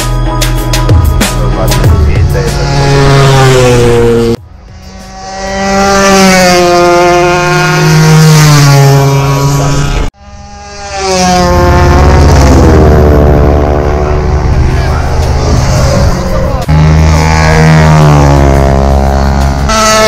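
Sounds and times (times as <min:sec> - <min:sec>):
racing motorcycle engines passing: 0:00.9 - 0:20.0.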